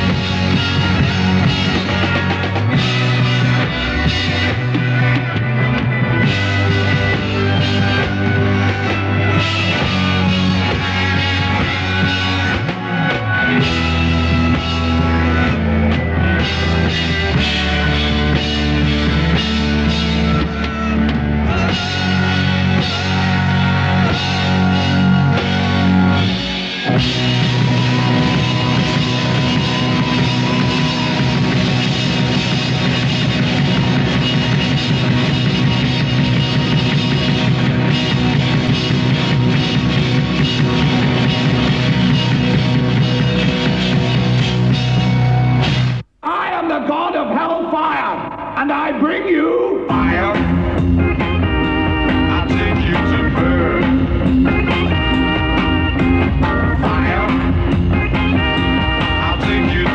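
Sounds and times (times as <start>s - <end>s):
electric guitar: 0.0s - 46.0s, 49.9s - 59.9s
psychedelic rock band playing: 0.0s - 46.0s, 49.9s - 59.9s.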